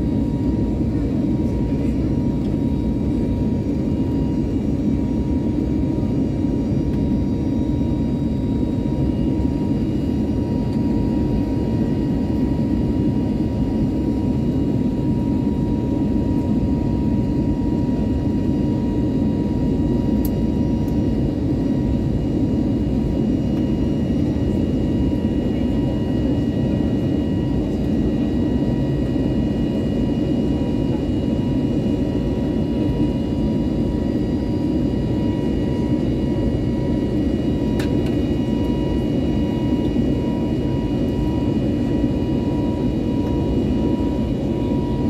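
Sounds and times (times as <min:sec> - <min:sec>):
faint steady whine: 0:00.0 - 0:45.0
jet engine rumble: 0:00.0 - 0:45.0.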